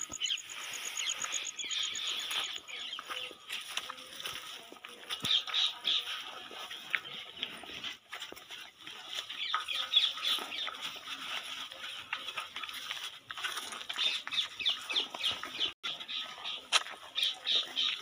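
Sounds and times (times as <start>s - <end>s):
calf munching fodder: 0.0s - 18.0s.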